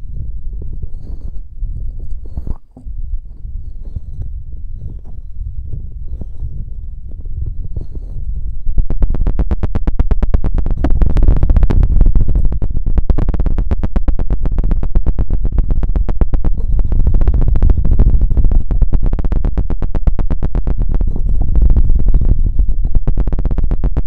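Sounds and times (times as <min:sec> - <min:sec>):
feather rod scratching microphone: 0:00.0 - 0:24.0.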